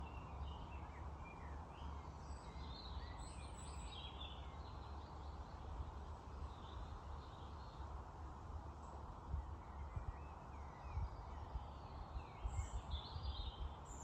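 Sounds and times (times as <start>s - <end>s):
songbirds chirping and singing: 0.0s - 8.0s, 8.9s - 14.0s.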